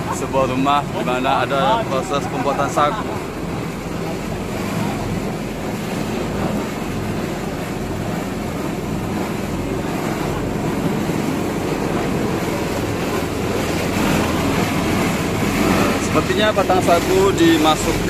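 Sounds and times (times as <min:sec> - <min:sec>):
machine droning: 0:00.0 - 0:18.0.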